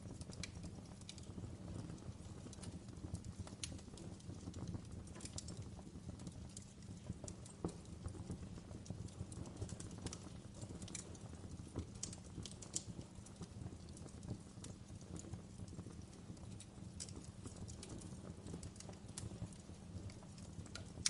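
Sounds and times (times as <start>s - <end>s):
burning wood crackling and popping: 0.0s - 21.0s
flames rumbling: 0.0s - 21.0s.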